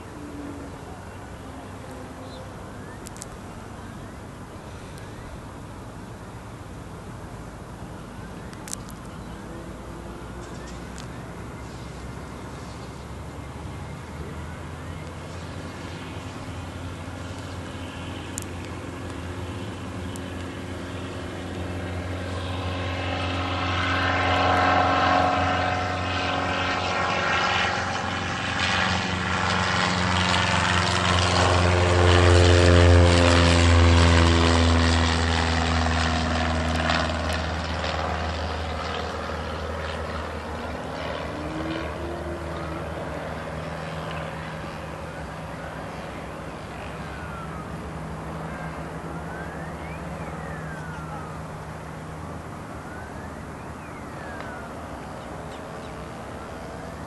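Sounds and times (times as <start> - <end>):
light aircraft engine passing: 0.0 - 57.0.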